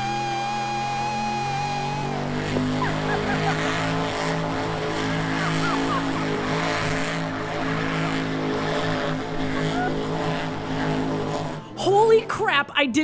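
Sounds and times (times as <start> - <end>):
truck engine at high revs: 0.0 - 12.7.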